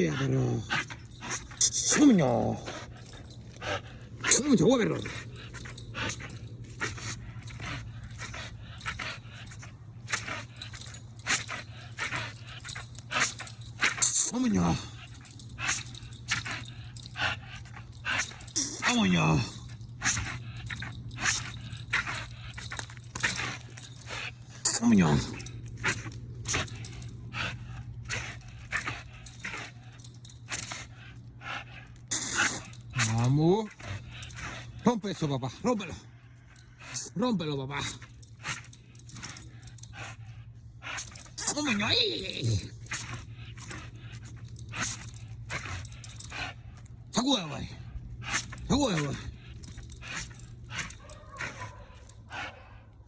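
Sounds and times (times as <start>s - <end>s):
dog panting: 0.0s - 53.0s
steady low hum: 0.0s - 53.0s.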